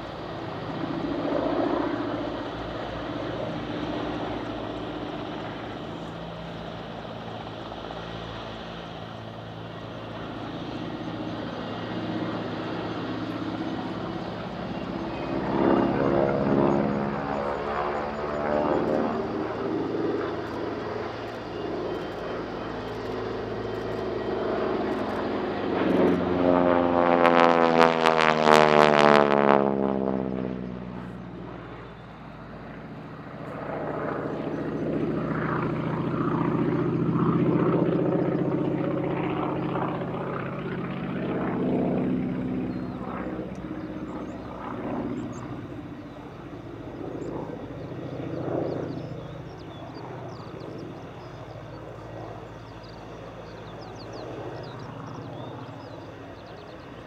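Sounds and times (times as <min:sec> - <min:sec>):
propeller plane passing: 0:00.0 - 0:57.0.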